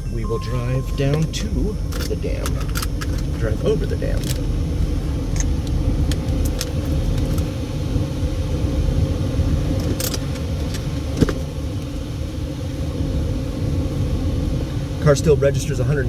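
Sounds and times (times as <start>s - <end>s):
air conditioning blowing: 0.0s - 16.0s
car engine running: 0.0s - 16.0s.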